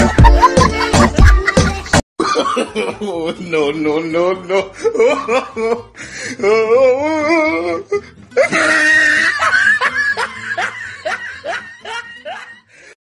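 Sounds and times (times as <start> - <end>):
music: 0.0 - 2.0, 2.7 - 13.0
person laughing: 0.0 - 3.3, 4.5 - 12.7.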